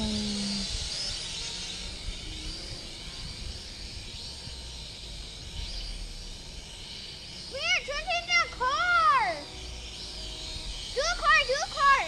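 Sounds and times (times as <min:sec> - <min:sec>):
toy drone propellers buzzing: 0:00.0 - 0:12.0.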